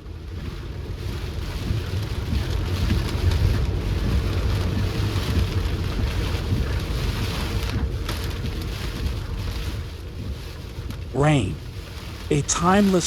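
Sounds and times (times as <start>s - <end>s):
rain hissing on car: 0.0s - 13.0s
road and tyre rumble: 0.0s - 13.0s.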